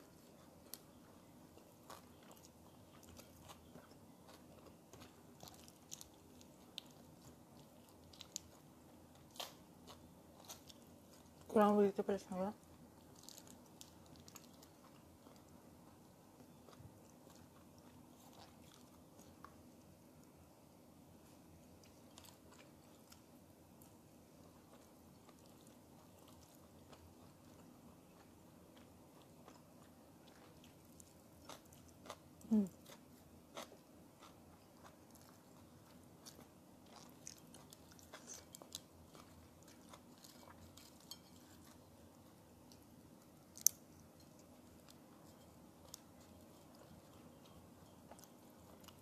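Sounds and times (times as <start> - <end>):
person chewing: 0.0 - 11.5, 13.0 - 20.4, 21.2 - 49.0.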